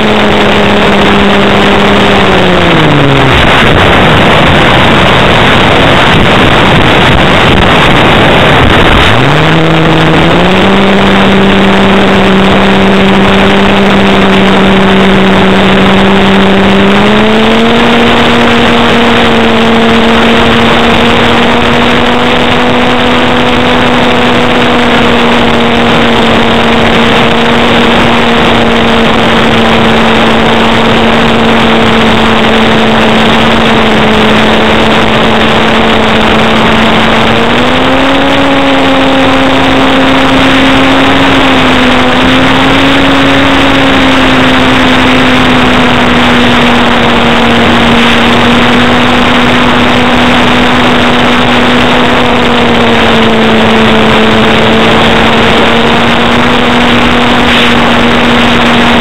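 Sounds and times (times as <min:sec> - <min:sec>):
electric motor and propeller drone: 0:00.0 - 0:59.0
wind rush: 0:00.0 - 0:59.0.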